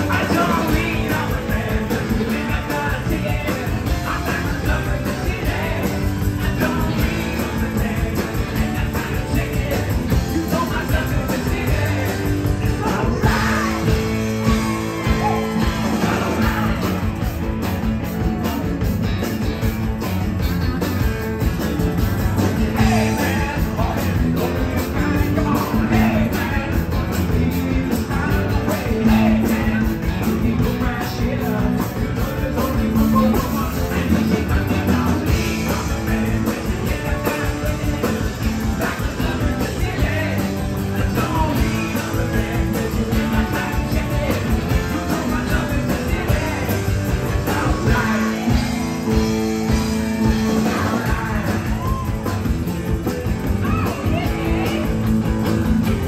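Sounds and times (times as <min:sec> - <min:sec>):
man singing lead: 0:00.0 - 0:19.8, 0:22.0 - 0:56.0
drum kit: 0:00.0 - 0:56.0
electric bass: 0:00.0 - 0:56.0
electric guitars: 0:00.0 - 0:56.0.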